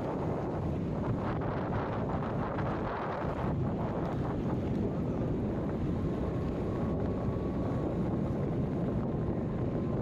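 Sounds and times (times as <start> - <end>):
vehicle rumbling on highway: 0.0 - 10.0
wind buffeting microphone: 0.0 - 10.0.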